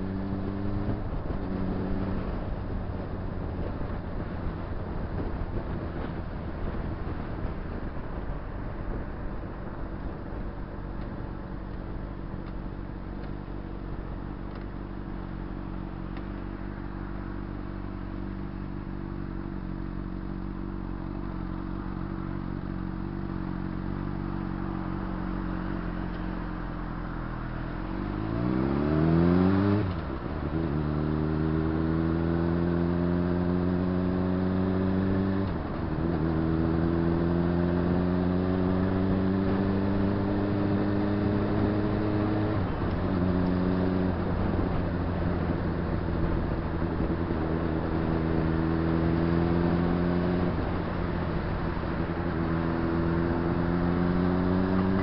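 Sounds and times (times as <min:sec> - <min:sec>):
motorcycle engine revving: 0:00.0 - 0:08.3, 0:10.4 - 0:55.0.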